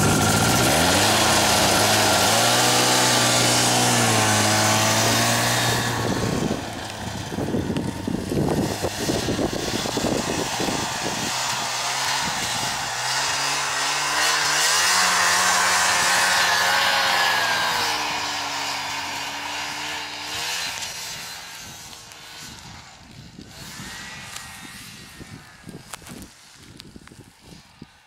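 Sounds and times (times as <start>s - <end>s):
snowmobile engine revving: 0.0s - 26.6s
crackling wind noise: 0.0s - 28.0s.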